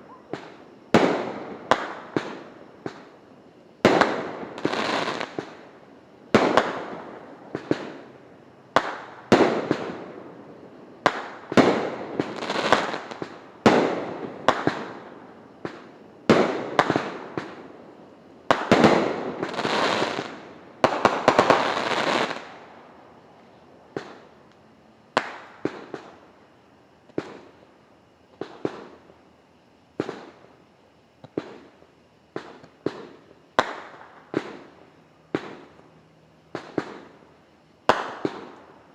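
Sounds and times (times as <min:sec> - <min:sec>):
fireworks crackling: 0:00.0 - 0:26.4, 0:31.2 - 0:38.9.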